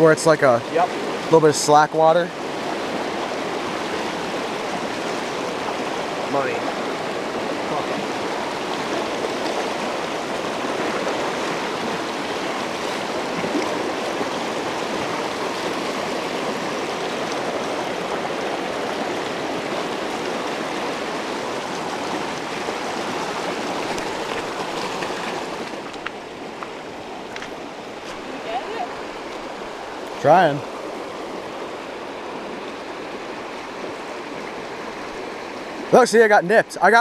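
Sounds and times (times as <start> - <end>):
stream flowing over rocks: 0.0 - 37.0.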